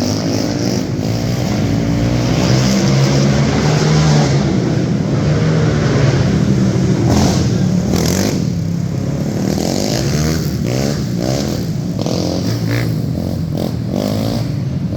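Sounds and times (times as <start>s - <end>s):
quad engines revving: 0.0s - 14.9s.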